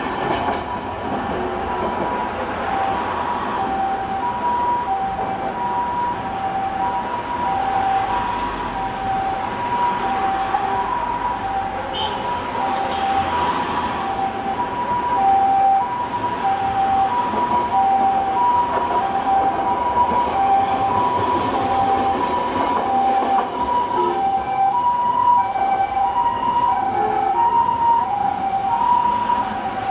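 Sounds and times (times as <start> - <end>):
street traffic noise: 0.0 - 29.9
ambulance two-tone siren: 1.7 - 29.9.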